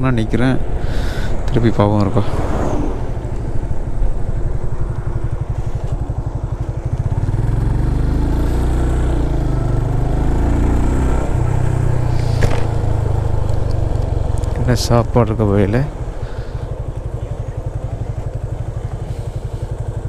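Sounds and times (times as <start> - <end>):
motorcycle engine running: 2.9 - 20.0.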